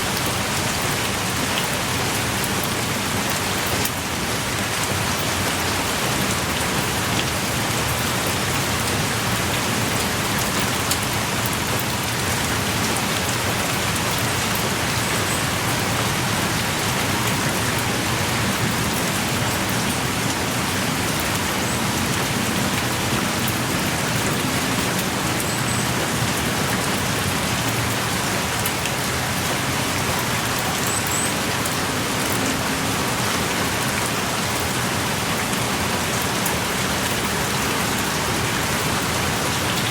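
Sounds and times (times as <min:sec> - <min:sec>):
heavy rain pouring: 0:00.0 - 0:39.9
raindrops ticking: 0:00.0 - 0:39.9.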